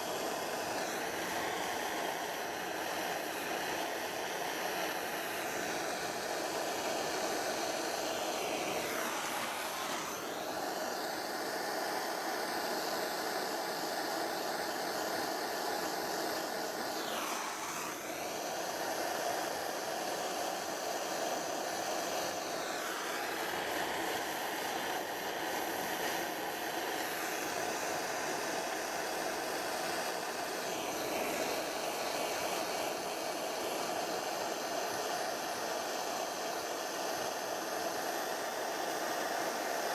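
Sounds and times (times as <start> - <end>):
blowtorch flame roaring: 0.0 - 39.9.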